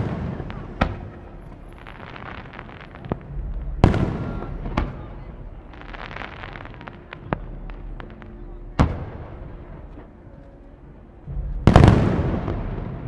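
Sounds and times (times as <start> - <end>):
firework crackling: 0.0 - 13.0.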